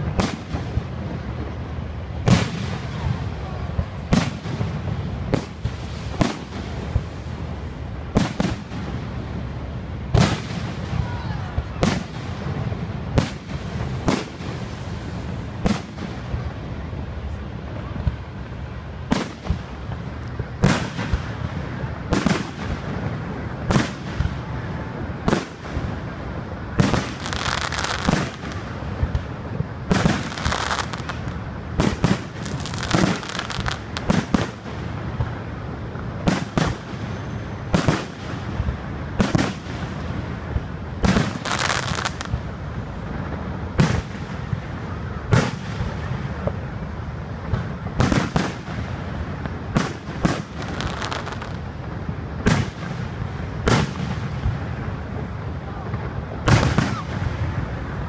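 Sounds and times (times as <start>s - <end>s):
firework crackling: 0.0s - 58.0s.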